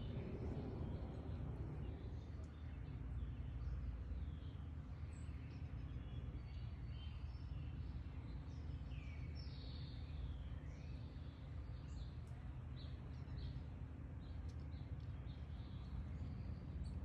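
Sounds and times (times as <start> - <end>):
low background rumble: 0.0 - 17.0
songbirds chirping: 0.0 - 17.0.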